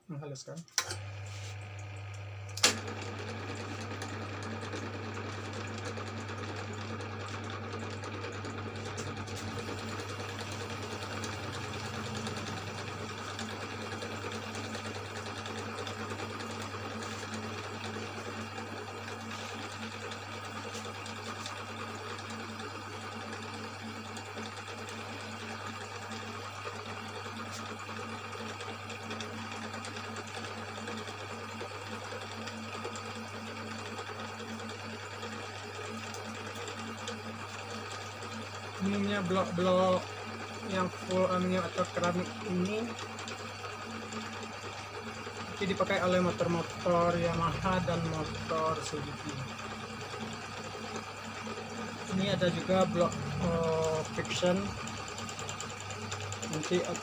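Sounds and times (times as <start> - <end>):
electric motor humming: 0.8 - 57.0.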